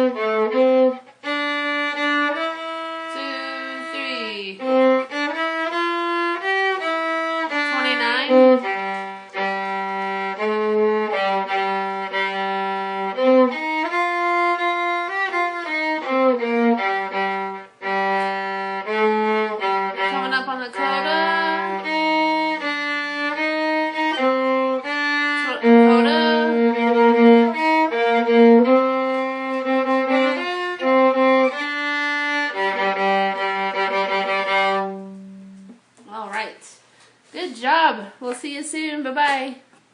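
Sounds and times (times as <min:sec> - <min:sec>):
viola playing quick melody: 0:00.0 - 0:35.8.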